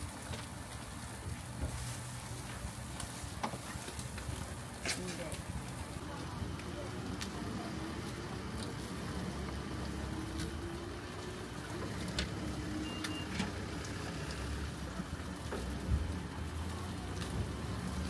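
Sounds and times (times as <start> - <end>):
skewers sizzling on grill: 0.0 - 18.0
traffic rumble: 0.0 - 18.0.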